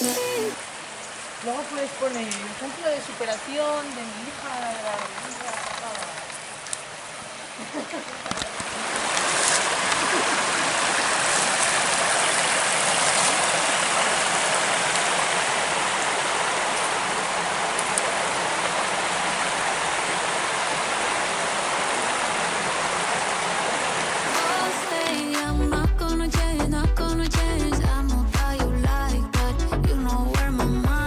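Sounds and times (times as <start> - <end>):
stream rushing over cascades: 0.0 - 25.8.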